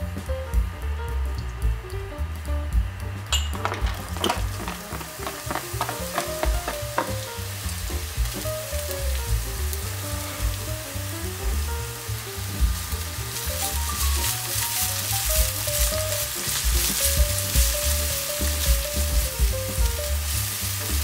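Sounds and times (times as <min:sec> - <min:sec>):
onion and garlic sizzling in oil: 0:00.0 - 0:21.0
soft music with bass beat: 0:00.0 - 0:21.0.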